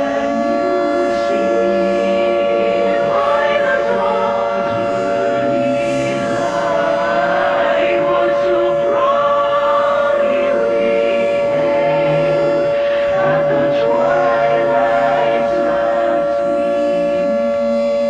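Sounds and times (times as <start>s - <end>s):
choir singing with music: 0.0s - 18.0s
steady droning tone: 0.0s - 18.0s.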